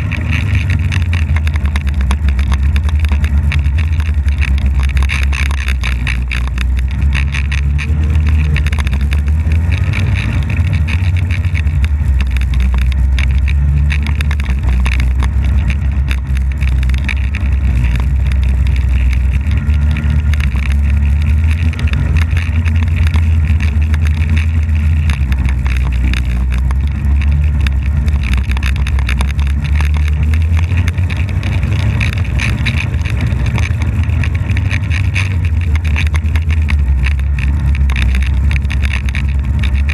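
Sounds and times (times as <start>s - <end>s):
snowmobile engine rumbling: 0.0s - 39.9s.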